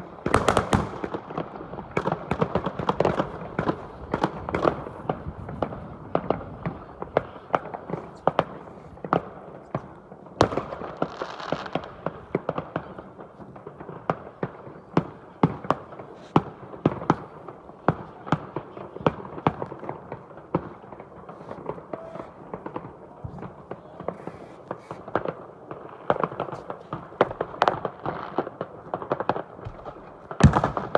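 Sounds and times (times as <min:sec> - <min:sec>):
distant fireworks bangs: 0:00.0 - 0:30.9.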